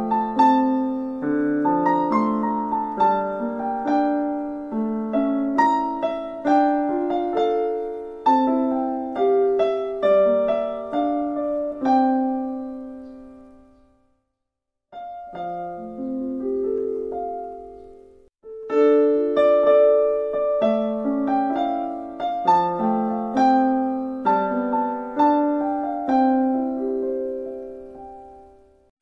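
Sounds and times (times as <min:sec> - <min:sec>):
piano music: 0:00.0 - 0:14.1, 0:14.9 - 0:28.9.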